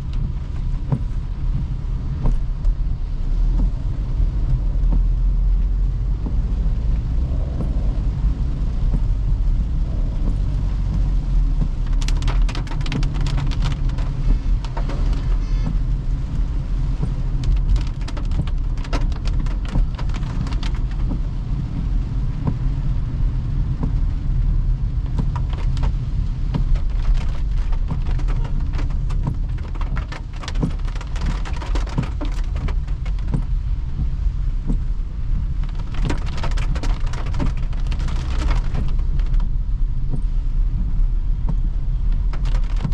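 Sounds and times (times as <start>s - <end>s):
raindrops clicking on car: 0.0s - 42.9s
road and tyre noise: 0.0s - 42.9s.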